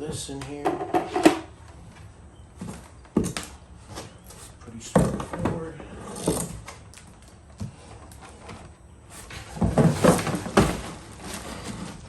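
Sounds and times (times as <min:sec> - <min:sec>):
knocks and scraping of parts: 0:00.3 - 0:12.0.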